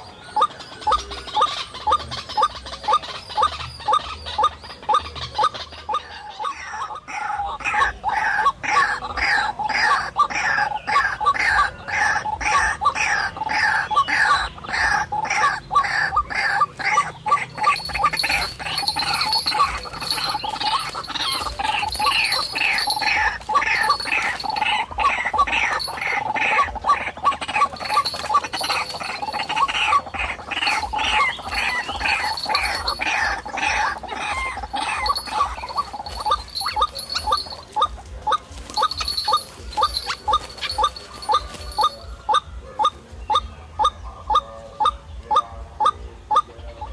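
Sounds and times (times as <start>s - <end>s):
waterhen calls: 0.0s - 46.9s.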